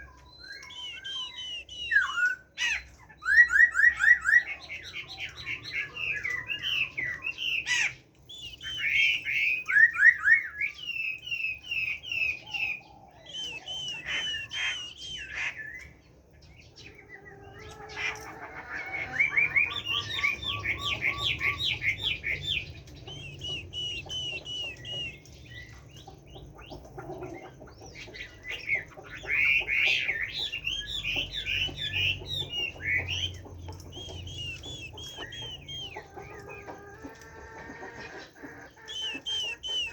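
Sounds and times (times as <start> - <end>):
bird singing whistled notes: 0.0 - 16.0, 19.0 - 36.7, 38.8 - 39.9.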